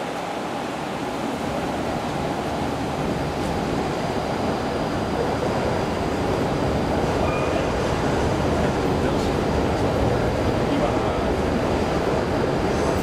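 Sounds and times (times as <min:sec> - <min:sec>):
tram rolling on rails: 0:00.0 - 0:13.0.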